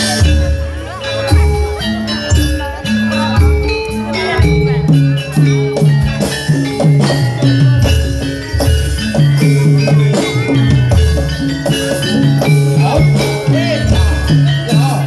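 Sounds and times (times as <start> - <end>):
drums: 0.0 - 15.0
metal mallet percussion: 0.0 - 15.0.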